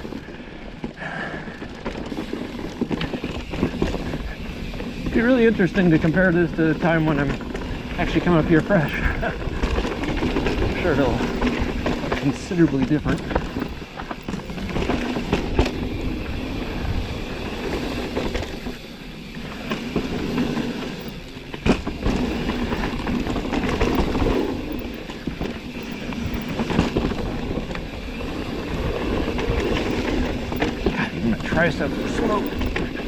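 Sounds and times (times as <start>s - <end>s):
bike rattling over rocks: 0.0s - 33.0s
bike tyre noise on dirt: 0.0s - 33.0s.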